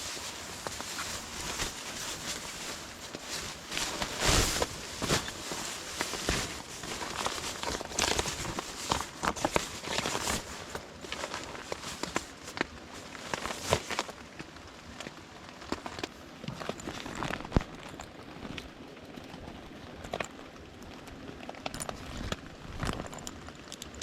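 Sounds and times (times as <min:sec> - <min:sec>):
rustling and crinkling: 0:00.0 - 0:24.0.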